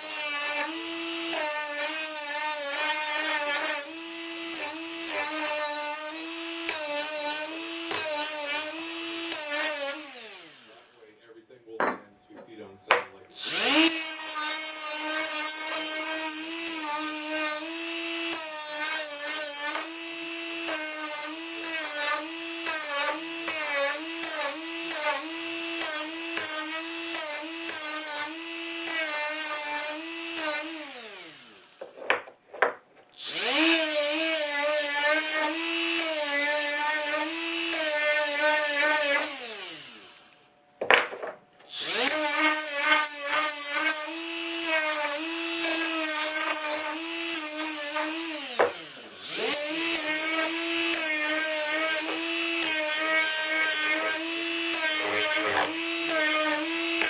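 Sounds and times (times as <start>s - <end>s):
angle grinder grinding metal: 0.0s - 11.2s, 12.2s - 40.4s, 41.0s - 57.0s.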